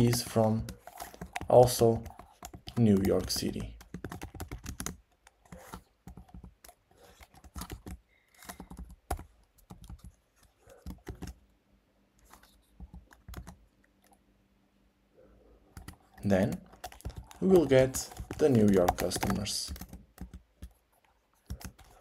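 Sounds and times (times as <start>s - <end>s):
computer keyboard typing: 0.0s - 11.4s, 12.3s - 14.2s, 15.7s - 22.0s.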